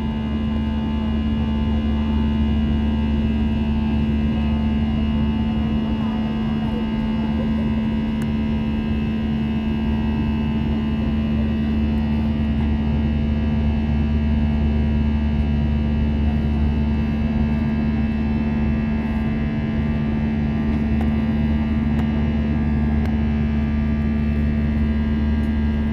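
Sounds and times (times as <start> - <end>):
airliner engine drone in cabin: 0.0 - 25.9.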